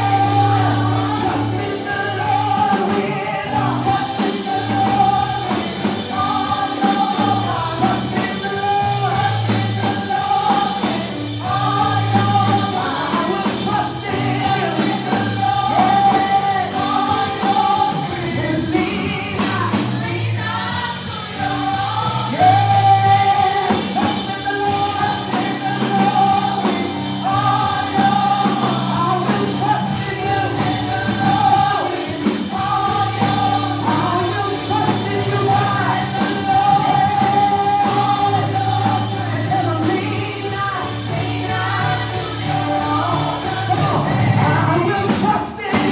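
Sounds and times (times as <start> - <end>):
choir singing with band: 0.0 - 45.9.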